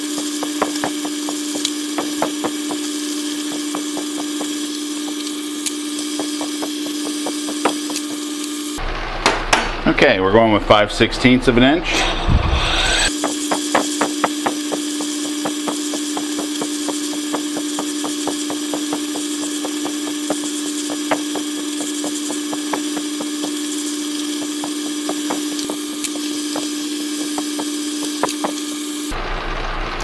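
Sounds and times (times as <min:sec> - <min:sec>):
lathe drilling hum: 0:00.0 - 0:08.8, 0:12.0 - 0:29.2.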